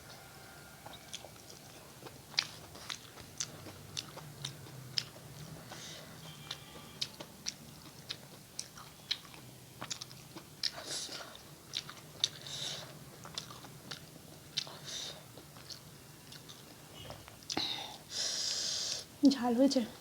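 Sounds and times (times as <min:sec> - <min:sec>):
faint low hum: 0:00.0 - 0:20.0
wet chewing and smacking: 0:00.1 - 0:17.8.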